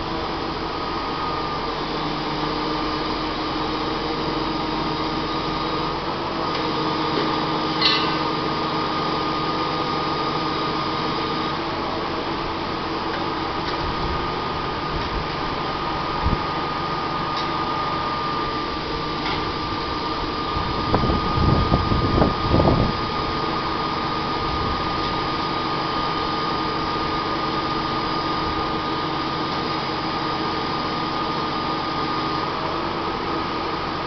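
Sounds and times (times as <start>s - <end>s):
crane engine and hydraulics running: 0.0s - 34.0s.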